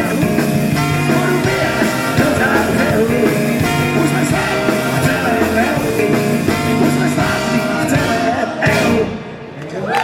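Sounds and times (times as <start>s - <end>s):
bass notes: 0.0s - 9.6s
rock and roll band playing: 0.0s - 9.6s.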